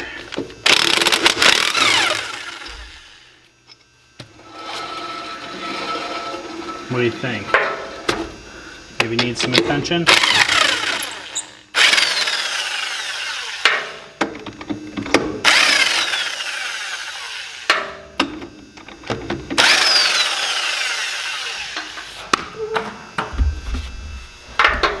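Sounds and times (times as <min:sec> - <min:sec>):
bearing grinding whir: 0:00.2 - 0:18.0, 0:18.6 - 0:25.0.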